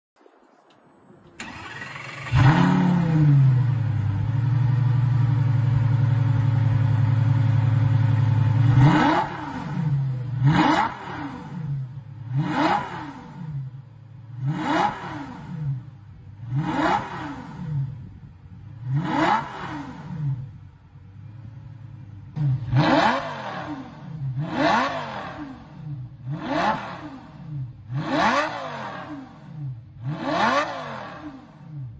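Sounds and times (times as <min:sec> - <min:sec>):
sports car engine revving: 0:01.4 - 0:31.9.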